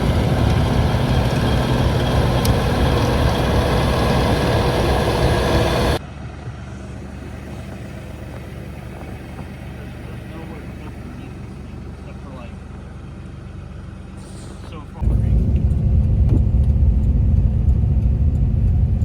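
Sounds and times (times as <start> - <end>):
engine running loudly: 0.0 - 13.0, 14.2 - 19.0
quiet engine hum: 0.0 - 19.0.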